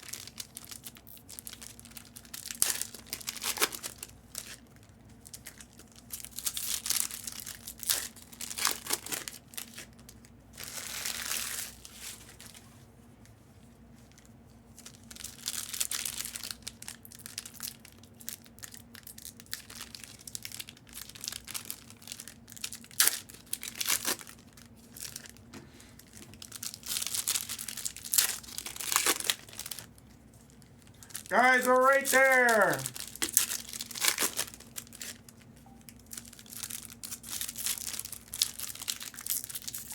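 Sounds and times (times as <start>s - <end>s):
card pack wrappers tearing and crinkling: 0.0s - 4.6s, 5.2s - 12.3s, 14.8s - 25.4s, 26.0s - 39.9s.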